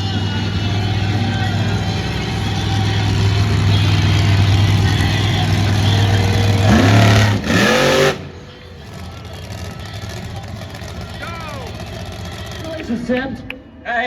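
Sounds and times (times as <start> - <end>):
monster truck engine revving: 0.0 - 13.2.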